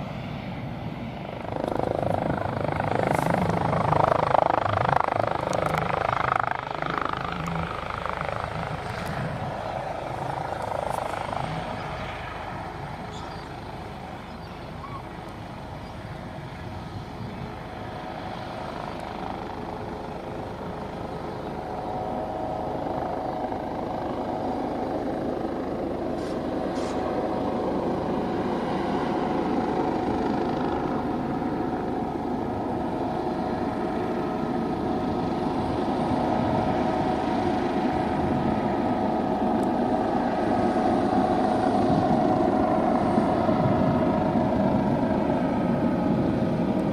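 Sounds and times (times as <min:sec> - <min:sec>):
helicopter turbine and rotor: 0:00.0 - 0:46.9
steady whine: 0:00.0 - 0:46.9.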